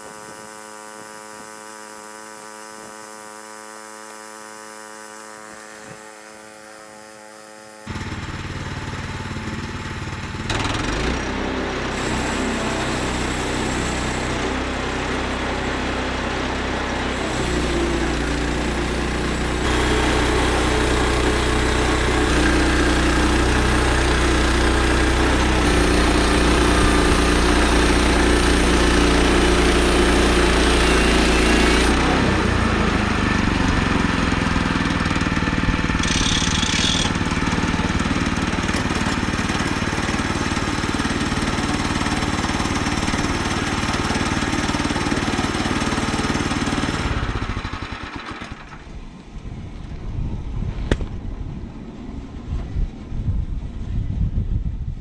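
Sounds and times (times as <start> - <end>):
bandsaw mill sawing log: 0.0 - 48.9.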